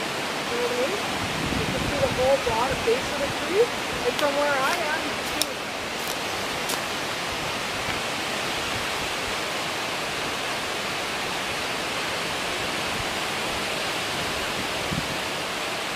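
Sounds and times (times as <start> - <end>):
strong wind rushing: 0.0 - 15.9.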